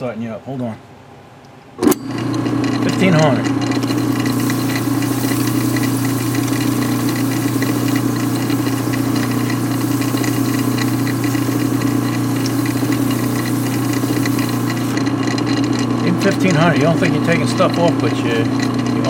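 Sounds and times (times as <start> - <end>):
electric motor hum: 2.0 - 19.0
fine rapid ticking: 2.6 - 19.0.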